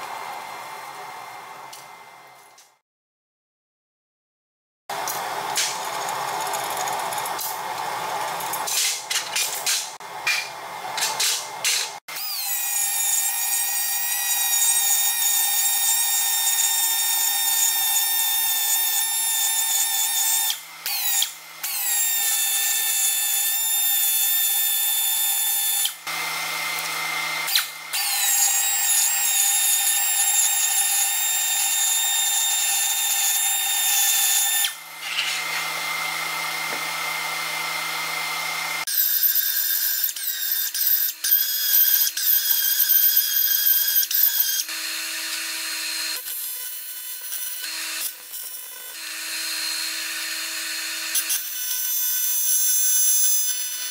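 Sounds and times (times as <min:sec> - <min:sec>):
rotary tool grinding metal: 0:05.0 - 0:53.9.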